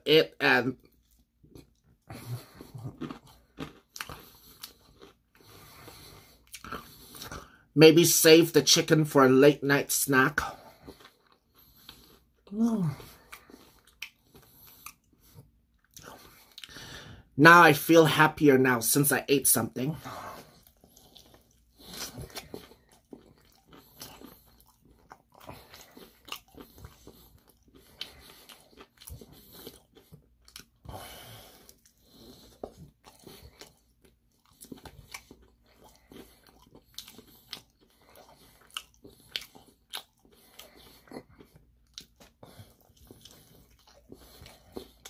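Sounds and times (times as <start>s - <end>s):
crunching bites and chewing: 0.8s - 7.6s, 10.4s - 16.8s, 20.0s - 45.0s.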